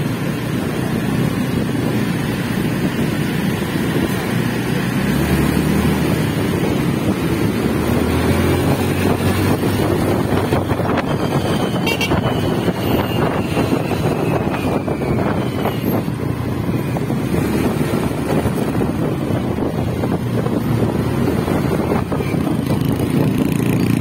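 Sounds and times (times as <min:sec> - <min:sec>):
vehicle rumbling: 0:00.0 - 0:24.0
wind buffeting microphone: 0:00.1 - 0:24.0.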